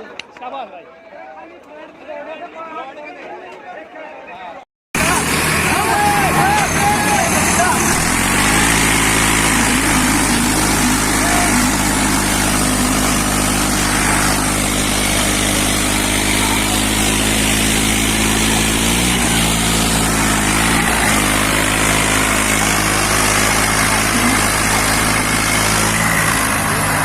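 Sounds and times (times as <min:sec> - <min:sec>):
tractor diesel engines under load: 0:05.0 - 0:27.0.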